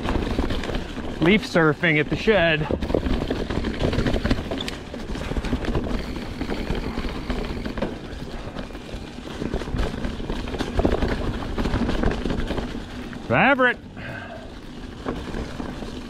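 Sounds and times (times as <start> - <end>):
bike clicks and rattles: 0.0 - 16.0.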